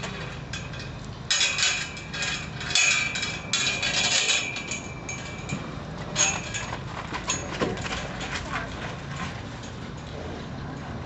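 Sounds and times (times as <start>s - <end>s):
metal gate rattling: 0.0s - 10.2s.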